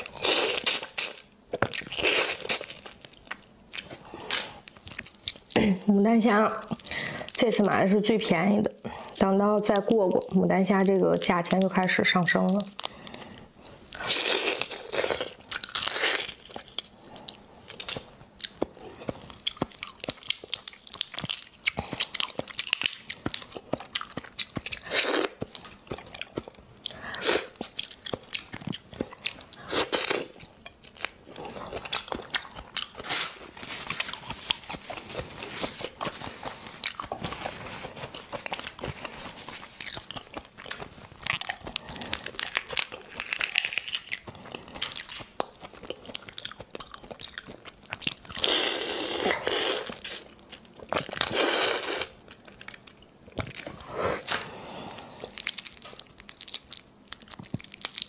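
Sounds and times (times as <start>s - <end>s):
wet biting and chewing: 0.0s - 5.8s, 12.6s - 58.0s.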